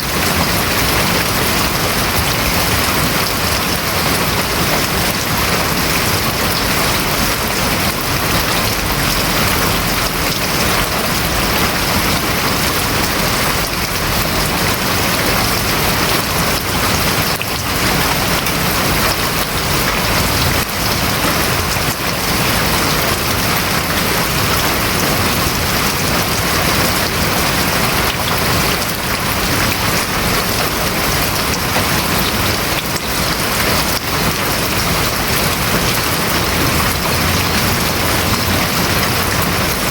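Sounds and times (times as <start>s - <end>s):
heavy rain drumming on a roof: 0.0s - 39.9s.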